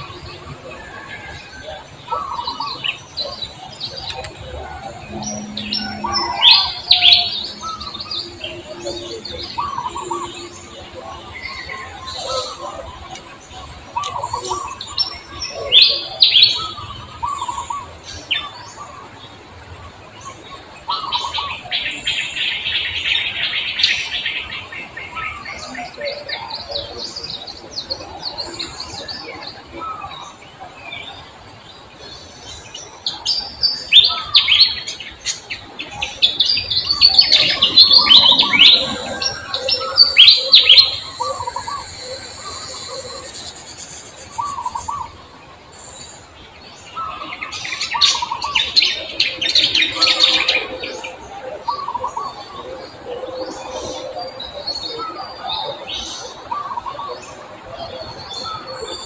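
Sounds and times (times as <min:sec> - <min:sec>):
birds chirping rapidly: 0:00.0 - 0:59.0.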